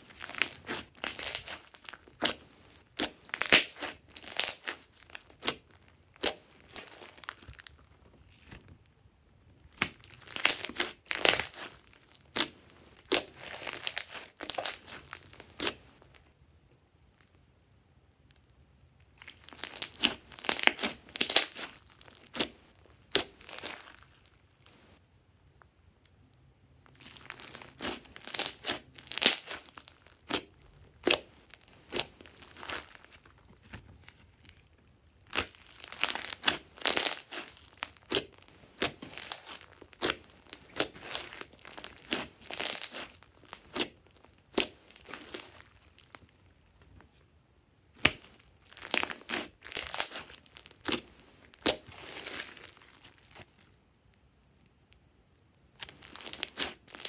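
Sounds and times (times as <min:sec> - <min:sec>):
slime crackling and popping: 0:00.0 - 0:08.6, 0:09.6 - 0:16.3, 0:19.0 - 0:24.8, 0:26.8 - 0:46.8, 0:47.9 - 0:53.8, 0:55.7 - 0:57.0.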